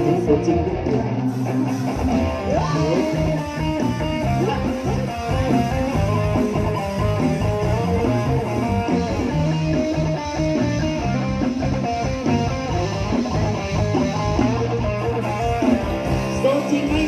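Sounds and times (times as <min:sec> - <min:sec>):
bass guitar: 0:00.0 - 0:17.0
electric guitar melody: 0:00.0 - 0:17.0
steady drum beat: 0:00.0 - 0:17.0.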